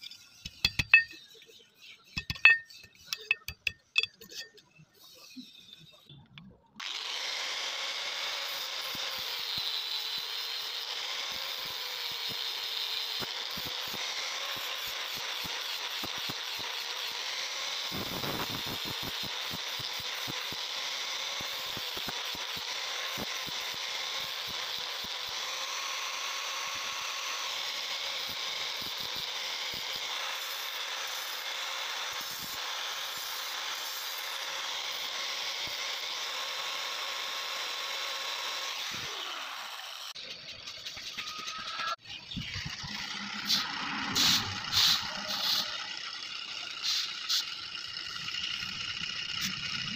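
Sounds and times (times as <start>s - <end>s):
power tool running: 6.8s - 49.9s.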